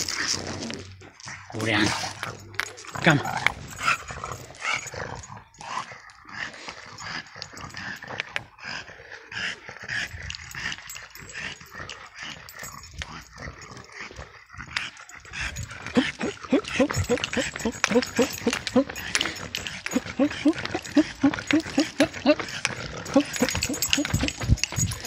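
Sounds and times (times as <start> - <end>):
dog breathing noisily: 1.3 - 25.0.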